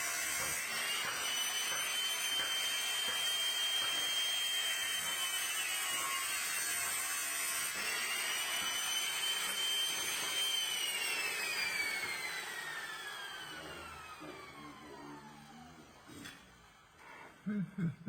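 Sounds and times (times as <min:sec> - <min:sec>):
power tool motor whining: 0:00.0 - 0:17.4.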